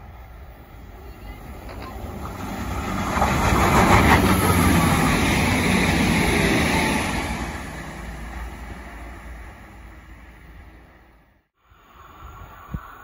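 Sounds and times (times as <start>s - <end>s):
diesel train passing at speed: 0.0s - 13.0s.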